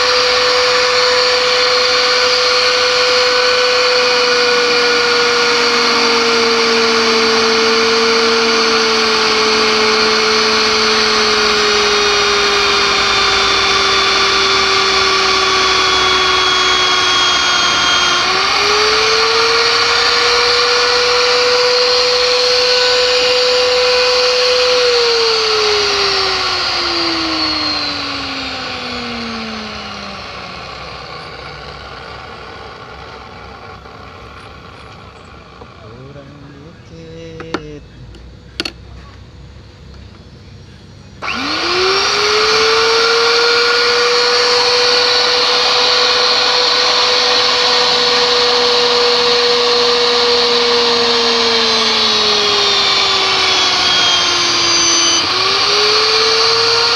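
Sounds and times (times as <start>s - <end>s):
pipe threading machine whining: 0.0s - 56.9s.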